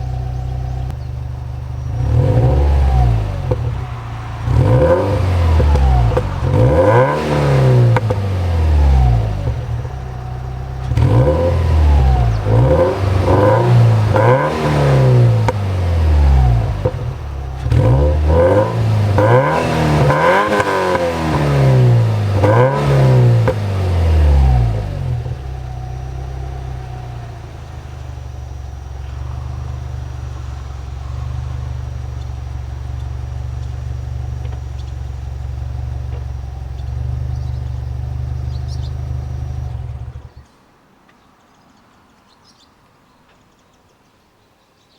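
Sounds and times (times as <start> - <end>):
car engine revving and idling: 0.0 - 40.4.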